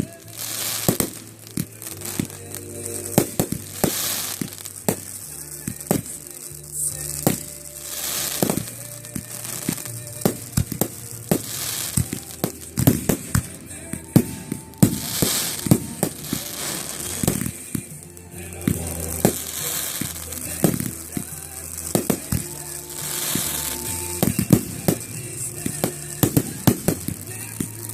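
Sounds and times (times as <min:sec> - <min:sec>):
background music: 0:00.0 - 0:27.9
fireworks bangs and pops: 0:00.0 - 0:27.9
fireworks crackling: 0:00.0 - 0:27.9.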